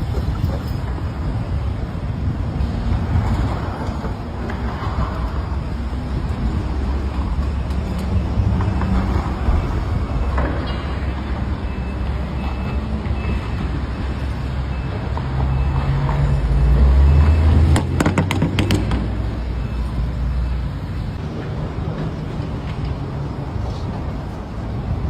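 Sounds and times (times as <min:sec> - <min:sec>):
road rumble: 0:00.0 - 0:25.0.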